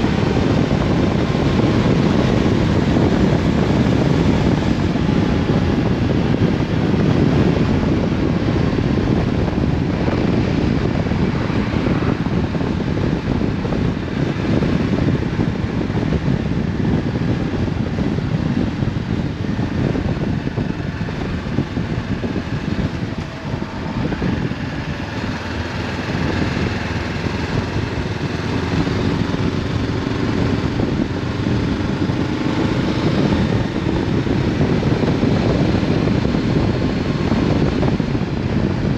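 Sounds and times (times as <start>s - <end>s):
motorcycle engine while riding: 0.0s - 38.9s
wind rush over microphone: 0.0s - 38.9s.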